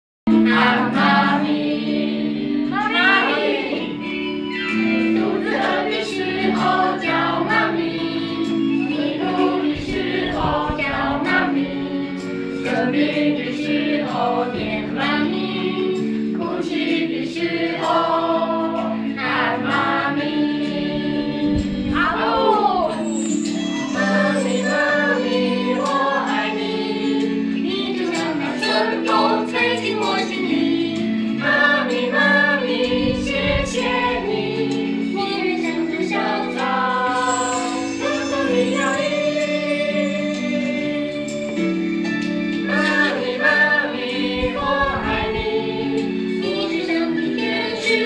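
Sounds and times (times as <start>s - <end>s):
youth choir singing: 0.3s - 41.8s, 42.6s - 48.0s
held accompaniment notes: 0.3s - 48.0s.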